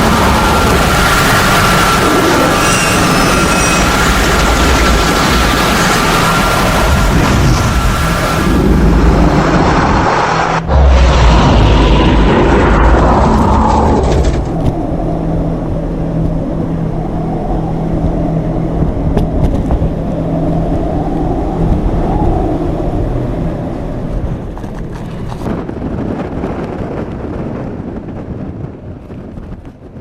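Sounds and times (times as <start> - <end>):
low hum: 0.0 - 26.7
tornado wind noise: 0.0 - 30.0.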